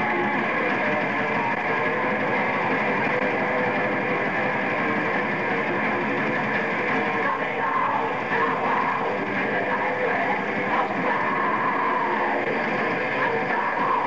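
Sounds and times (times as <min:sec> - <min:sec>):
metal band playing live: 0:00.0 - 0:14.0.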